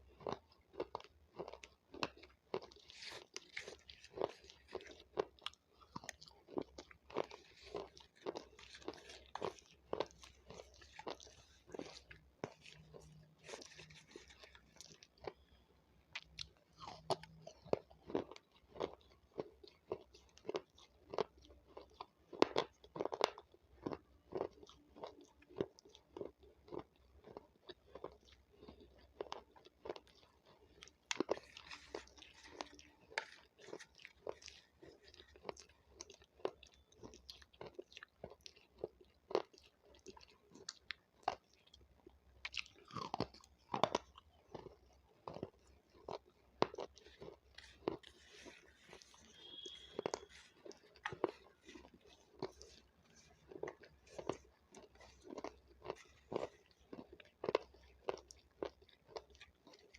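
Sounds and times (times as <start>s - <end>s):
pepper being chewed crunching: 0.0s - 59.9s.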